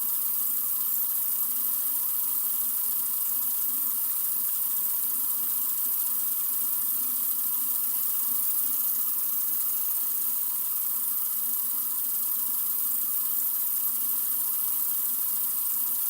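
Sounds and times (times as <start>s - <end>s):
sink faucet running: 0.0s - 16.0s.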